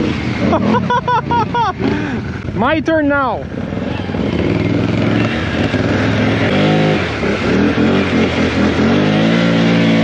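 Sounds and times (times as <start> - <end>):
off-road vehicle engine revving: 0.0 - 2.6, 3.4 - 10.0.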